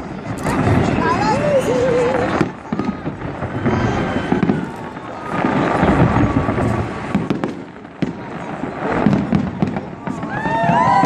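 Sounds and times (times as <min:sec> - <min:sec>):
fireworks crackling and booming: 0:00.0 - 0:11.0
sharp firework bang: 0:00.0 - 0:11.0.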